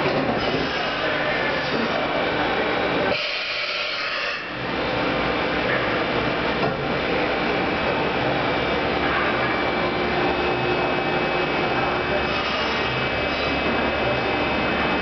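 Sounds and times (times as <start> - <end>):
machining center hum and whir: 0.0 - 15.0.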